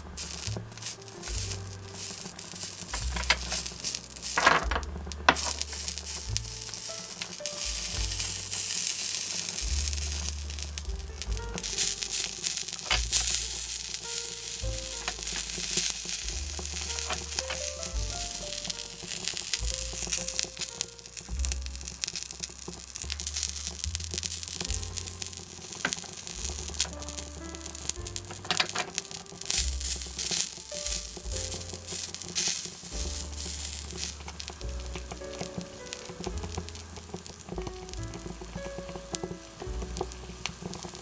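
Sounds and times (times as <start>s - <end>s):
background music with bass line: 0.0s - 41.0s
meat sizzling in a frying pan: 0.0s - 41.0s.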